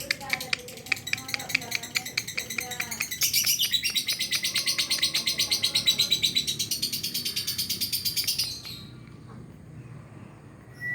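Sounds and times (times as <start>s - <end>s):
bird chattering trill: 0.0s - 9.0s.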